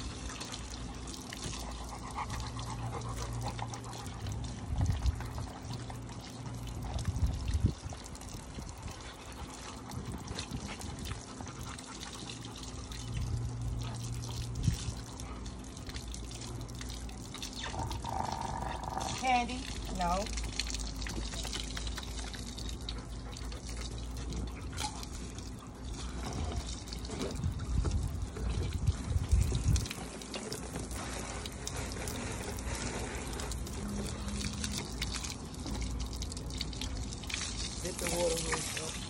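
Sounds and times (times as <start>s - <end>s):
hose water splashing on concrete: 0.0s - 39.0s.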